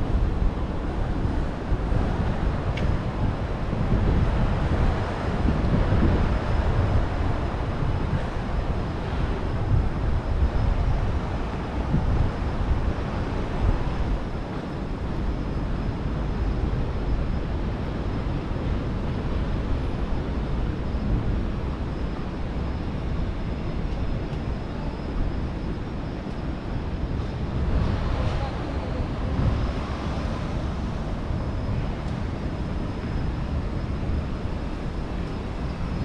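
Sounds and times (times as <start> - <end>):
low wavering outdoor rumble: 0.0 - 36.0.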